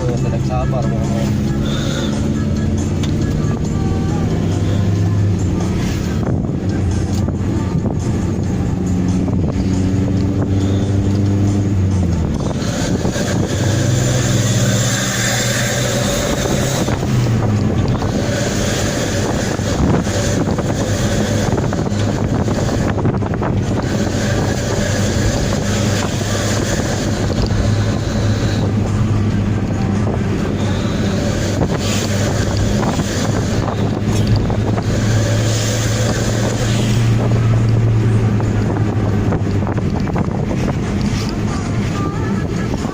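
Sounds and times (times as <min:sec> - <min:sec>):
van exhaust droning: 0:00.0 - 0:42.9
wind buffeting microphone: 0:05.9 - 0:42.9.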